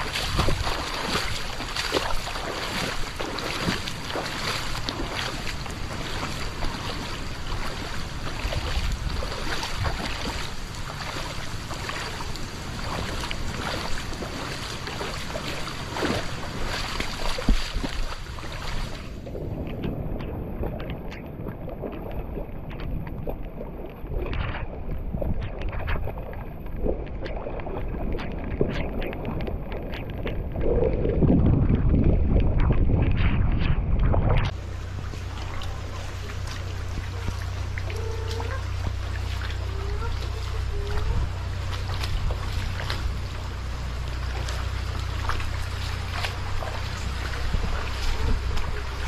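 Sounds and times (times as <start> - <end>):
splashing steps in water: 0.0 - 49.0
wind on microphone: 0.0 - 49.0.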